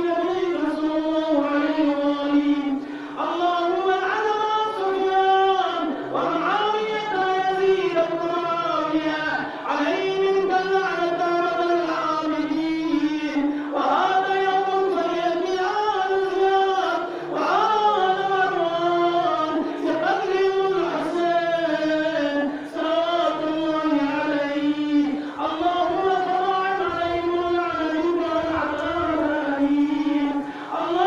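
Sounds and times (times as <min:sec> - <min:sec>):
men chanting a lament: 0:00.0 - 0:31.0.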